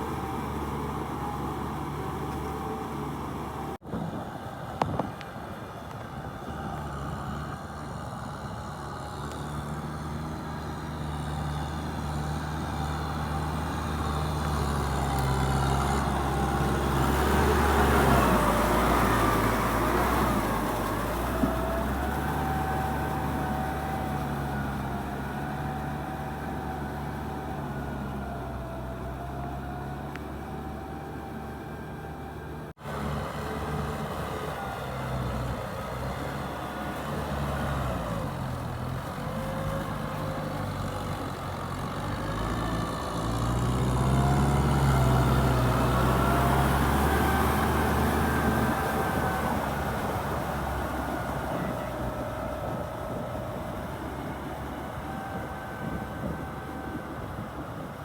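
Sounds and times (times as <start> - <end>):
tractor diesel engine whining: 0.0 - 58.0.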